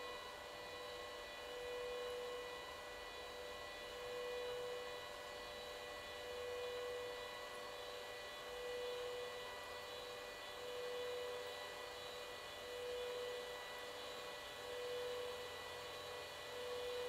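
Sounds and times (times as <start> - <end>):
electric hum and whine: 0.0 - 17.0.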